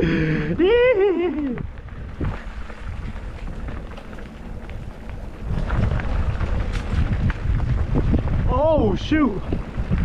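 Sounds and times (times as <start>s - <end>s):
tyres rolling over dirt: 0.0s - 10.0s
wind buffeting microphone: 0.0s - 10.0s.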